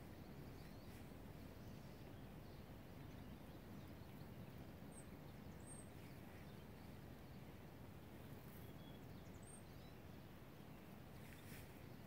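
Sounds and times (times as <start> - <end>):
faint high bird chirps: 0.0 - 12.0.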